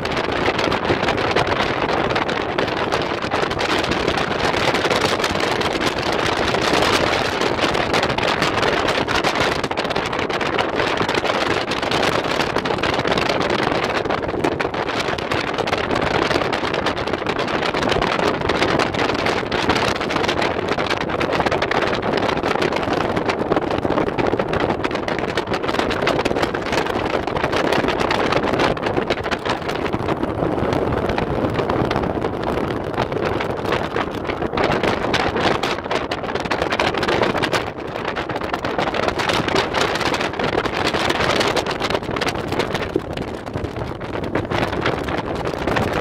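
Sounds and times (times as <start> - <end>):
wind: 0.0 - 46.0.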